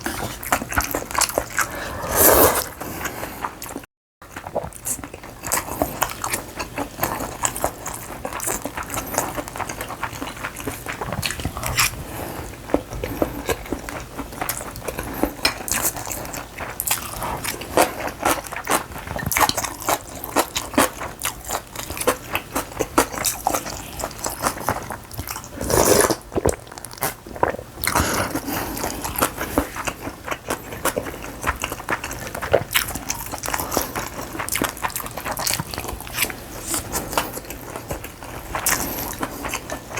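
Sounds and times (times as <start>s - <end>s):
chewing and crunching food: 0.0s - 2.0s, 2.8s - 39.9s.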